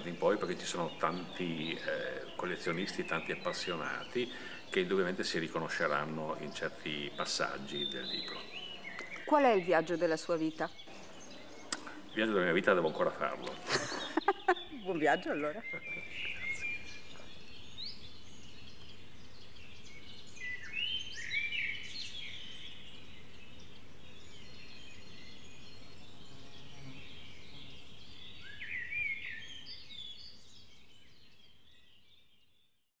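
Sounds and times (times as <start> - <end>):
rising and falling bird calls: 0.0 - 32.3
outdoor background hiss: 0.0 - 32.6
birds chirping and singing: 0.0 - 32.7.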